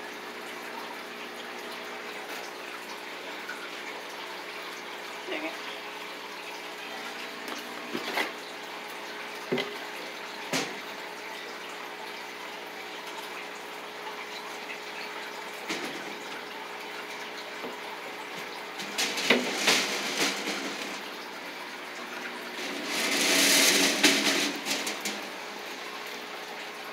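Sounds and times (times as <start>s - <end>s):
running trickling water: 0.0s - 26.9s.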